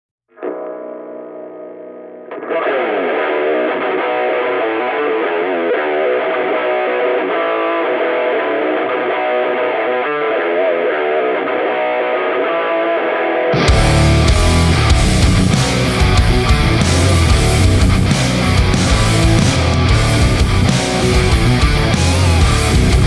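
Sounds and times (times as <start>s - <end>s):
distorted electric guitar riff: 0.3s - 23.0s.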